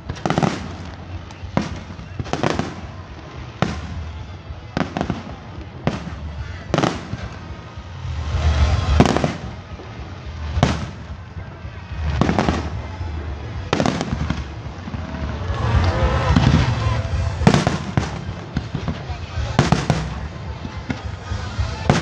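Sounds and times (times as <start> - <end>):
firework crackling: 0.0 - 22.0
low rumbling: 0.0 - 22.0.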